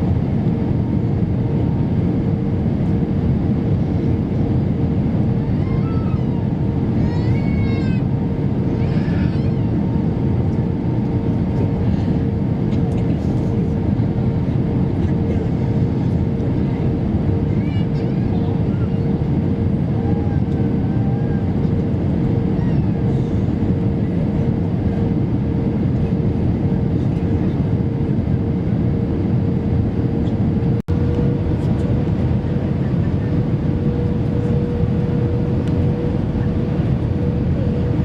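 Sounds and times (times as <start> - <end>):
constant hum: 0.0 - 38.0
jet engines rumbling: 0.0 - 38.0.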